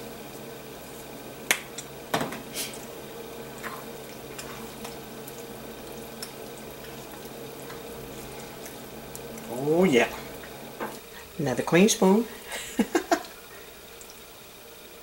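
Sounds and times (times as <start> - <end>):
steady low hum: 0.0 - 15.0
thick filling simmering in skillet: 0.0 - 15.0.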